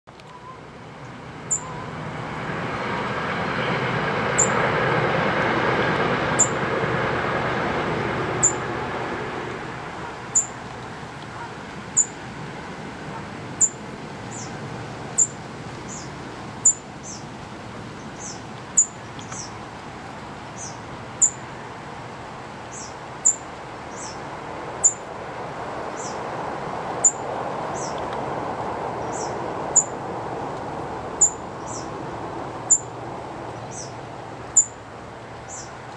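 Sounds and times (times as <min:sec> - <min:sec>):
low rumble of passing traffic: 0:00.1 - 0:35.9.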